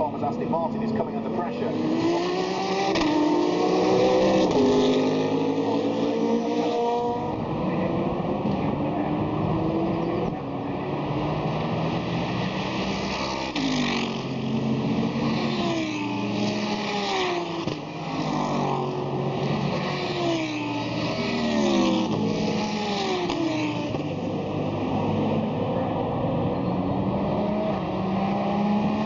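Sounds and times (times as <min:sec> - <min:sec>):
race cars passing: 0:00.0 - 0:29.0.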